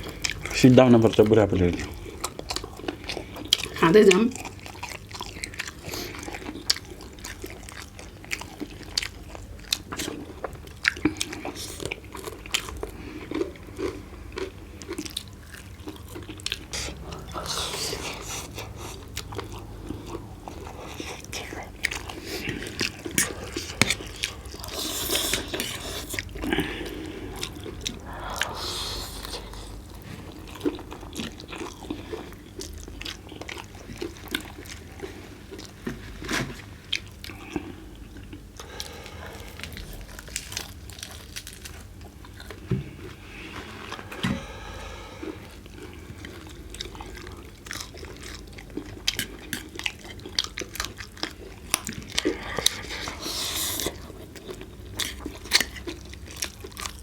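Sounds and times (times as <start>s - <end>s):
chewing and crunching chicken: 0.0s - 57.0s.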